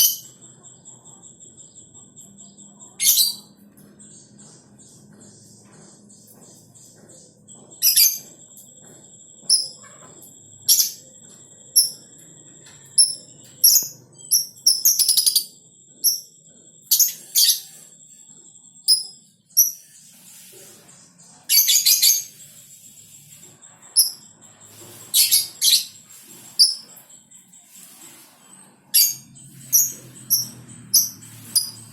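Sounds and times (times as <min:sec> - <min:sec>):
bird chirping: 0:00.0 - 0:31.9.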